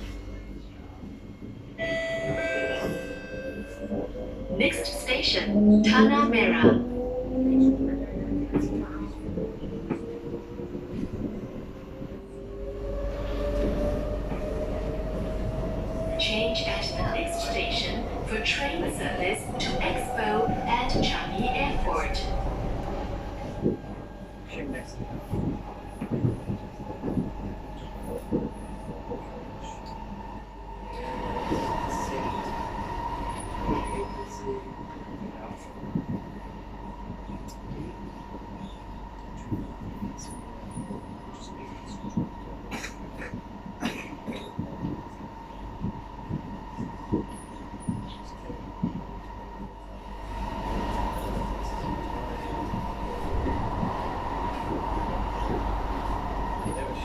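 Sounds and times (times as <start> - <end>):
train car rumble: 0.0 - 57.0.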